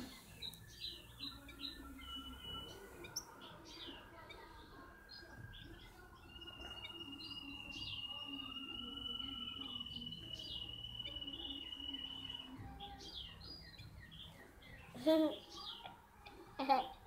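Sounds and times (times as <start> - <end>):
goldfinch twittering: 0.0 - 4.0, 5.1 - 15.9.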